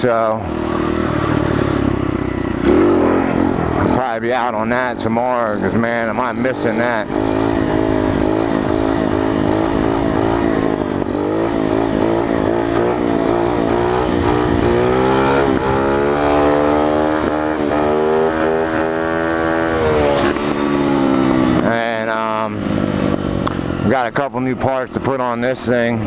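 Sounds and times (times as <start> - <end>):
small motorbike engine revving: 0.4 - 21.8.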